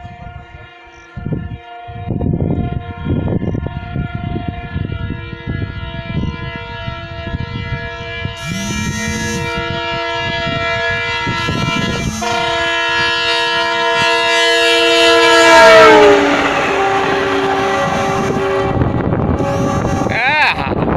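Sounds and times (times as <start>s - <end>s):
locomotive horn blast: 0.0s - 20.7s
train wheels rushing on rails: 1.2s - 20.9s.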